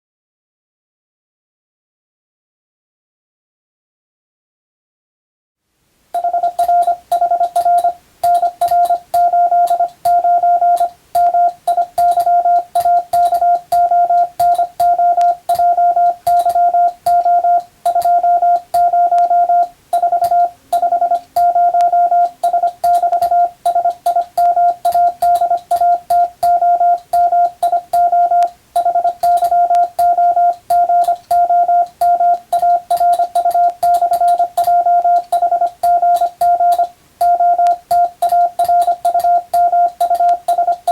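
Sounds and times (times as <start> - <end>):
morse code beeps: 6.2 - 40.9.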